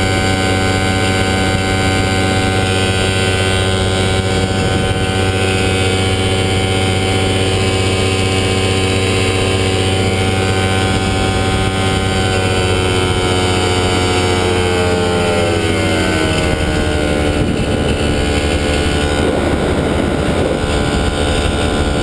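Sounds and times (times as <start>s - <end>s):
light aircraft engine in flight: 0.0s - 22.0s.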